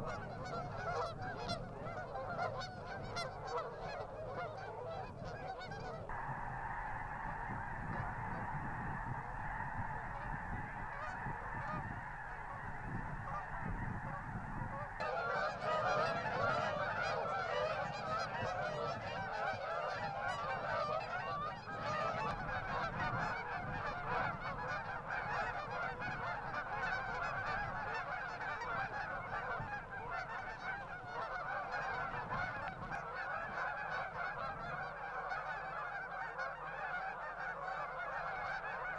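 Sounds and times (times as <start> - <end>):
flock of geese honking: 0.0 - 38.9.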